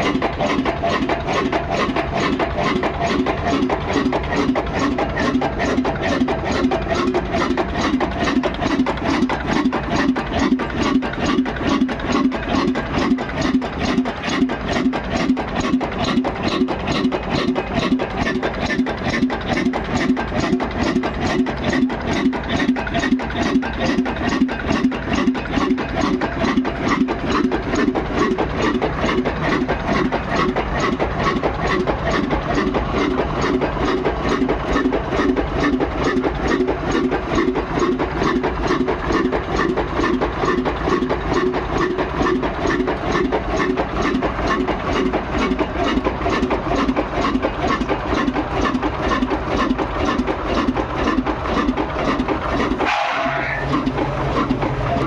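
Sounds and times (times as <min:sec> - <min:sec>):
stationary diesel engine running: 0:00.0 - 0:55.0.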